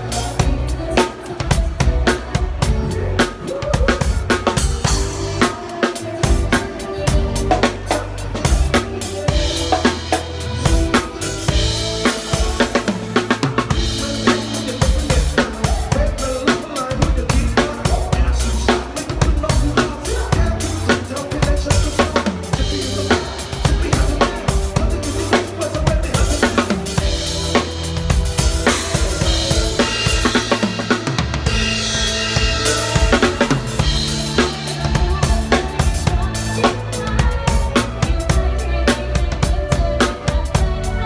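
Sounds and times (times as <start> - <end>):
drum kit kick and snare: 0.0 - 41.0
pop backing track: 0.0 - 41.0.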